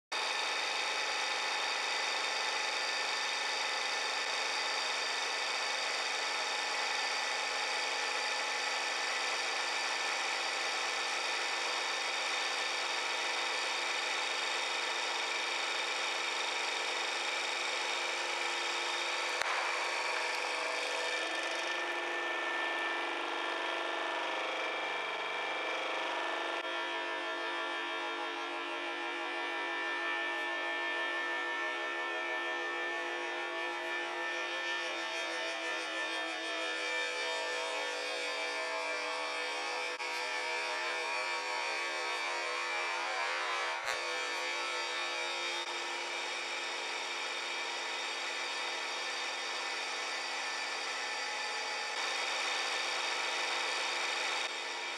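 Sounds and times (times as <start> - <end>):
hydraulic pump motor whining: 0.2 - 54.9.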